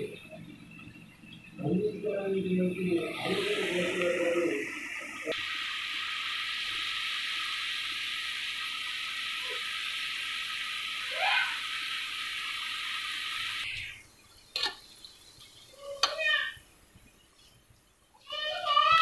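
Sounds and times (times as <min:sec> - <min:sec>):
onions sizzling in hot oil: 0:03.0 - 0:19.0.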